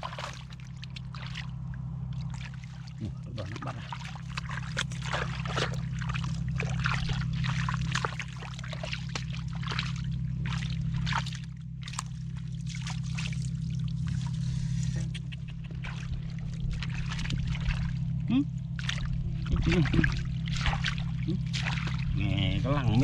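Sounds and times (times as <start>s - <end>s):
steady low hum: 0.0s - 23.0s
water splashing and sloshing: 0.0s - 23.0s.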